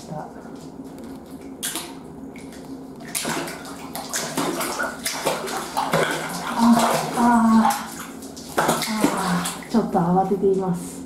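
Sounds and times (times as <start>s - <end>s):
water splashing and sloshing: 0.0s - 10.6s.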